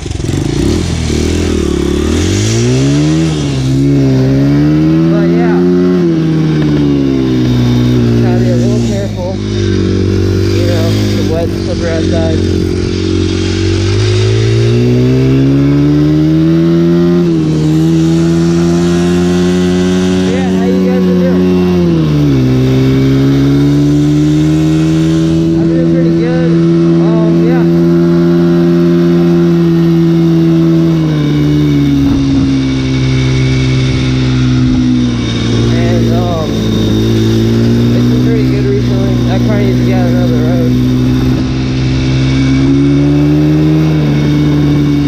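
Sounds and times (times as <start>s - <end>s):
dirt bike engine accelerating: 0.0s - 45.0s.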